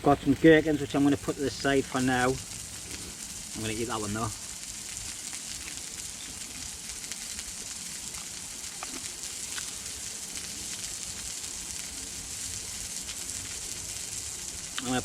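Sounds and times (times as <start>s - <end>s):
burger patty sizzling: 0.0s - 15.0s
faint crackles: 0.0s - 15.0s.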